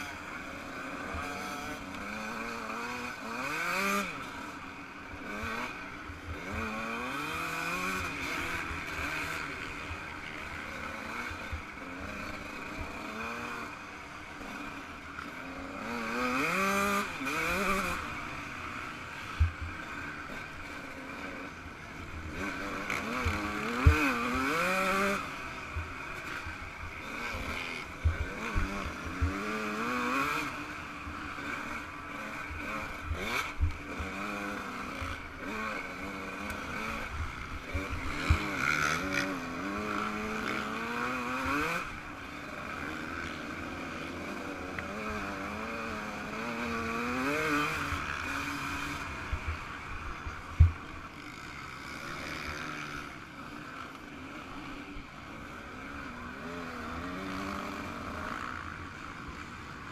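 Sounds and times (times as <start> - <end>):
two-stroke engine revving: 0.0 - 59.8.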